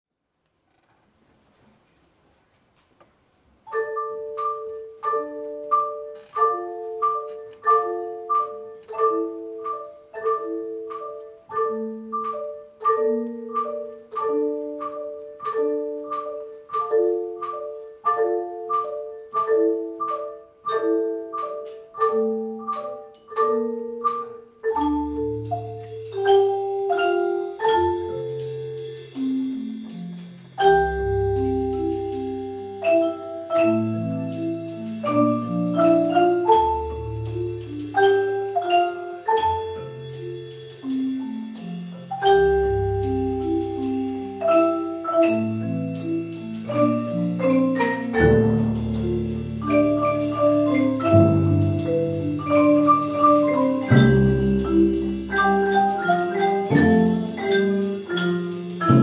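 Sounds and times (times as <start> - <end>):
marimbas playing repeated chord: 3.7 - 59.0.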